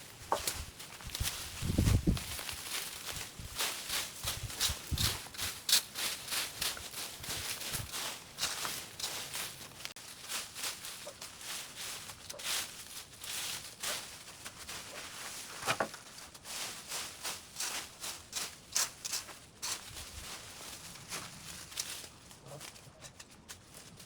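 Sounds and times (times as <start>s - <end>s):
dry brush rustling and crunching: 0.0s - 24.0s.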